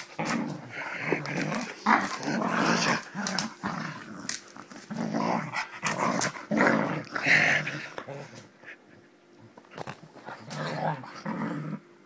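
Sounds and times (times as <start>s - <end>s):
dog growling playfully: 0.0s - 8.6s, 10.1s - 11.9s.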